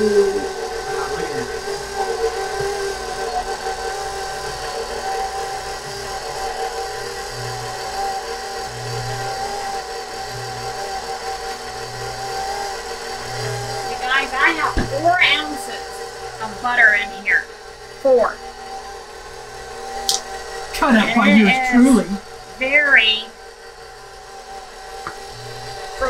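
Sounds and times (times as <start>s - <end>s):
stand mixer motor hum and whine: 0.0s - 26.0s.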